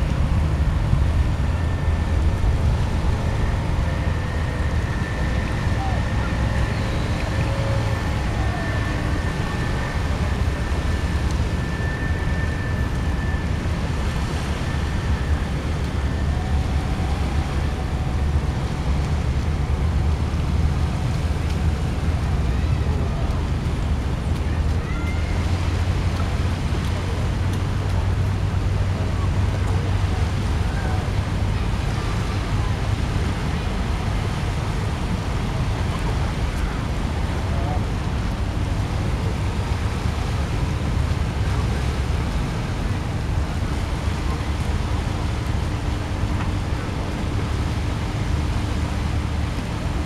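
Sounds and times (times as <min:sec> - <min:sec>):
low rumble: 0:00.0 - 0:50.0
wind buffeting microphone: 0:00.0 - 0:50.0.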